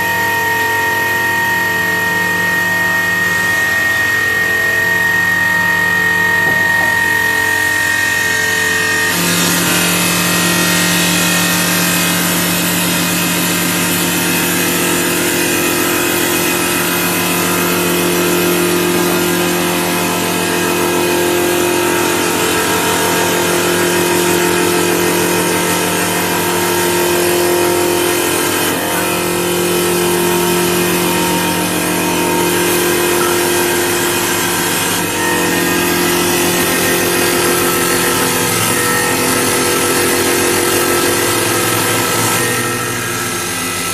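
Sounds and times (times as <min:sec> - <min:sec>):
lathe motor hum: 0:00.0 - 0:43.9.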